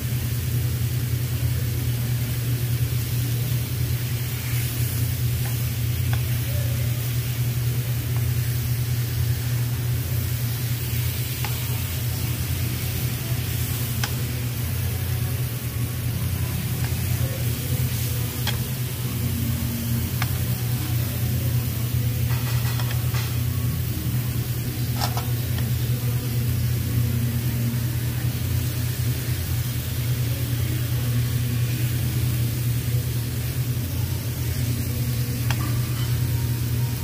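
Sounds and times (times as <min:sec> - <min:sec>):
meat sizzling on a grill: 0:00.0 - 0:37.0.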